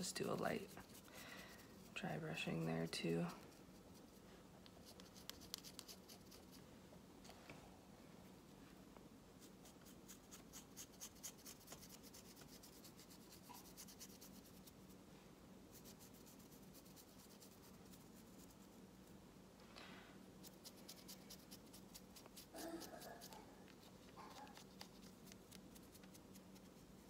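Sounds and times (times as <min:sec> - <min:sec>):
paintbrush bristles scratching: 0:00.0 - 0:06.6, 0:09.4 - 0:15.0, 0:15.7 - 0:18.8, 0:20.4 - 0:27.0.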